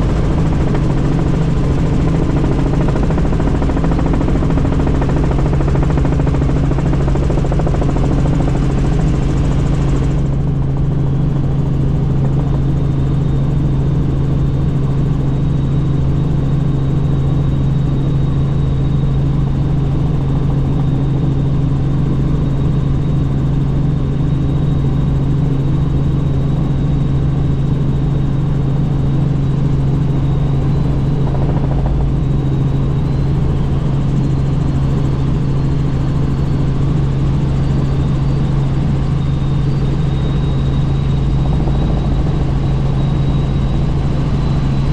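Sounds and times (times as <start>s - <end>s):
helicopter drone: 0.0s - 44.9s.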